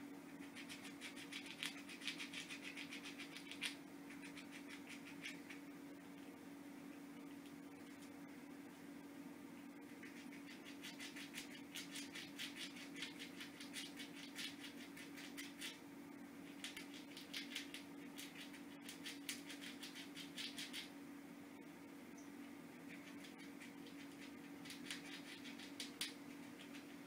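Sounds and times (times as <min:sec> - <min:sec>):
steady low hum: 0:00.0 - 0:27.0
squirrel gnawing a nut: 0:00.3 - 0:06.4, 0:07.2 - 0:08.2, 0:09.9 - 0:15.8, 0:16.4 - 0:21.0, 0:22.4 - 0:27.0.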